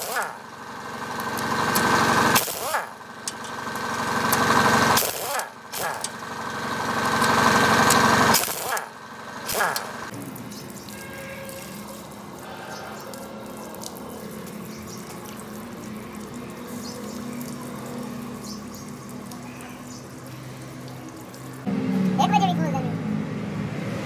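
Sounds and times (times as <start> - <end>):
hose water splashing on metal: 0.0 - 22.2.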